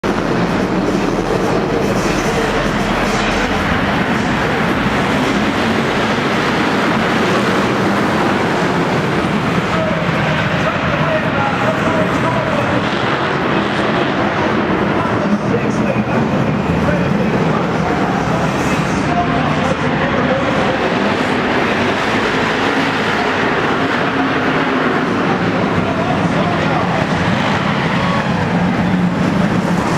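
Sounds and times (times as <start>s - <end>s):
stock car engines racing: 0.0s - 29.9s.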